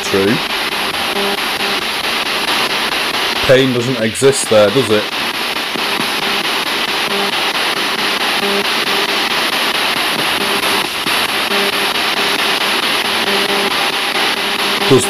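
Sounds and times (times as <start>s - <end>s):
radio static hiss: 0.0s - 15.0s
short radio hums: 0.0s - 15.0s.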